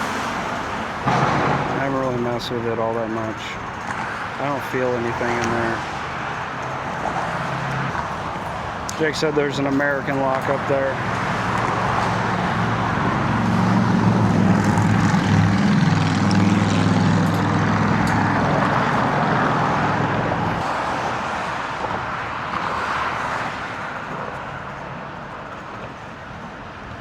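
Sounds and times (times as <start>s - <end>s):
tyre and road noise: 0.0s - 27.0s
vehicle engine hum: 0.0s - 27.0s.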